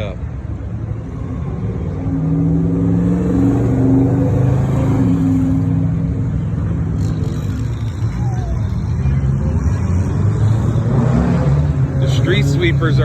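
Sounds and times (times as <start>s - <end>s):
car engine under throttle: 0.2s - 13.0s.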